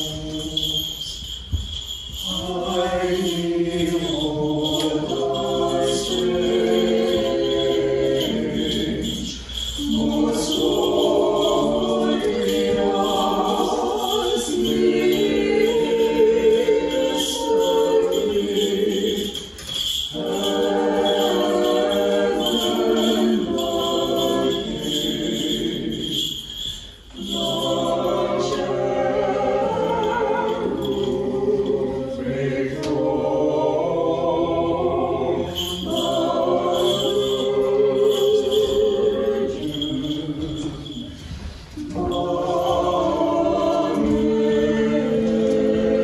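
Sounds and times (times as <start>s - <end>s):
choir singing unaccompanied hymn: 0.0s - 46.0s.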